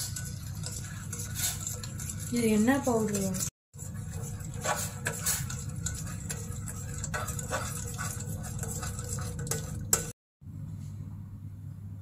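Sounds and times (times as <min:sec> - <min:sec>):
metal spoon stirring in metal bowl: 0:00.0 - 0:10.2.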